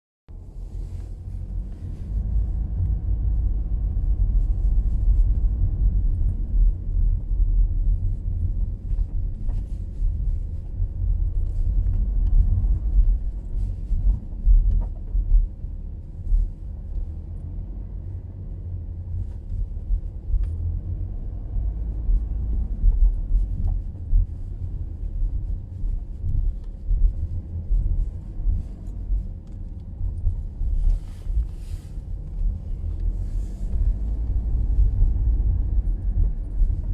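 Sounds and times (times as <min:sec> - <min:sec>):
low driving rumble: 0:00.3 - 0:36.9.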